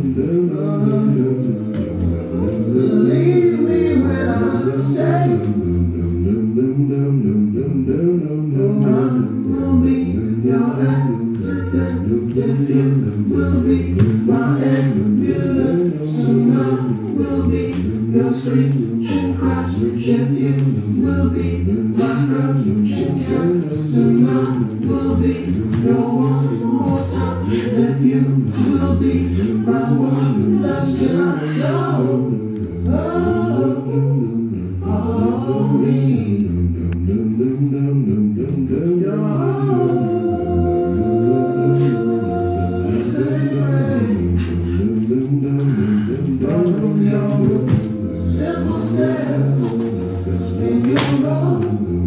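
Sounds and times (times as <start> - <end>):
layered a cappella singing: 0.0 - 52.0.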